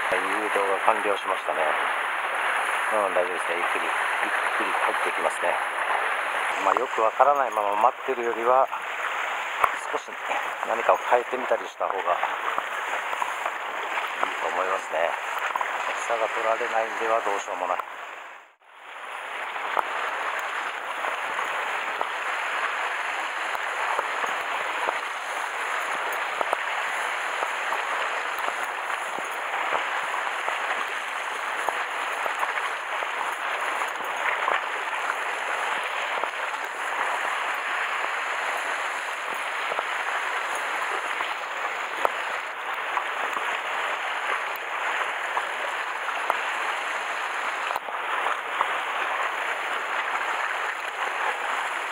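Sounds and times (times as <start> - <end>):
sea water fizzing on rocks: 0.0 - 51.9.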